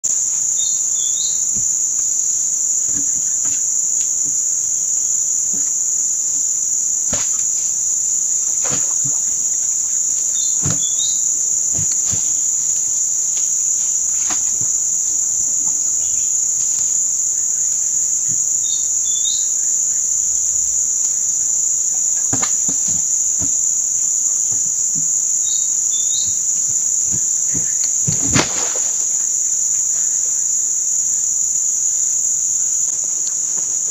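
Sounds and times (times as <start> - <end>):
high-pitched insect drone: 0.0 - 33.9.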